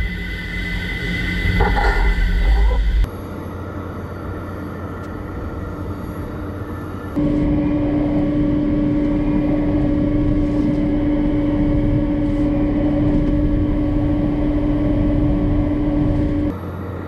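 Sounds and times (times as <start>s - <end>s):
truck engine and pump drone: 0.0s - 17.0s.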